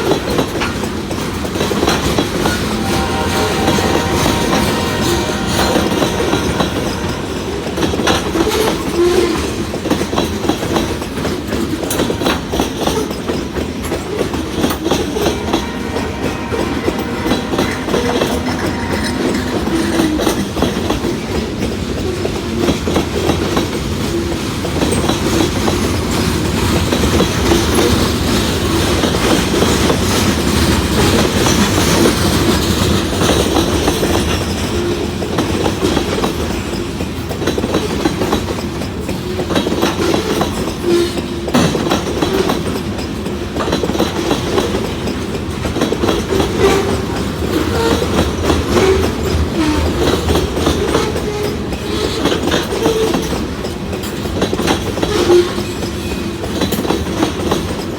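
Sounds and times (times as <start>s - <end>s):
train wheels clicking over rail joints: 0.0s - 57.9s.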